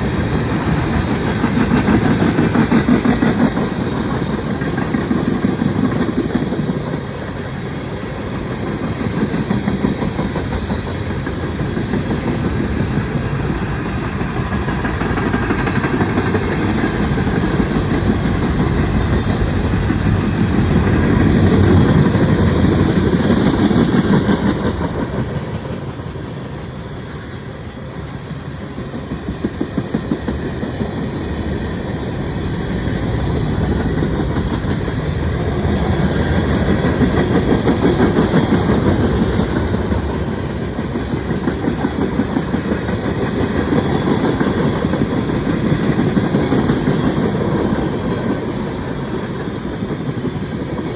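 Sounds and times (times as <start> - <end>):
wheels clacking over rail joints: 0.0 - 26.4, 28.1 - 50.9
wheel-on-rail noise: 0.0 - 50.9.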